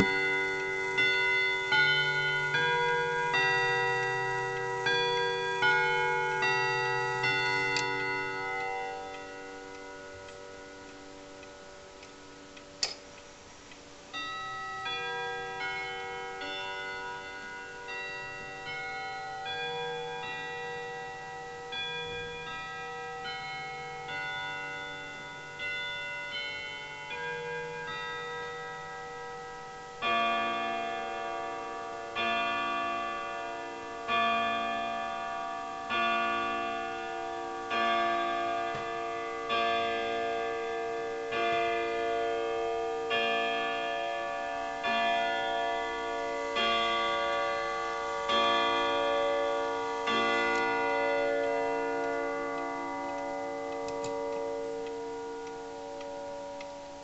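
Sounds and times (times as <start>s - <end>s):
deep clock strikes: 0.0s - 13.3s, 14.1s - 57.0s
clock chime melody: 0.0s - 57.0s.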